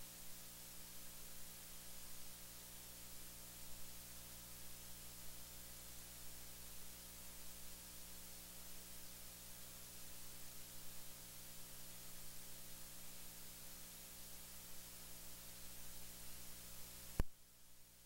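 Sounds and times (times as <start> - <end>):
low electrical hum: 0.0 - 18.0
steady hiss: 0.0 - 18.0.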